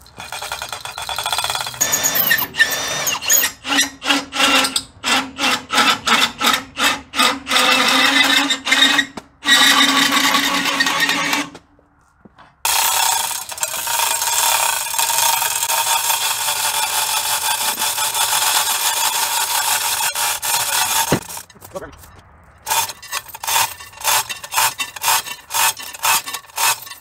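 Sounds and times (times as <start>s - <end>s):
power drill whirring: 0.0s - 11.6s, 12.7s - 21.5s, 22.7s - 27.0s.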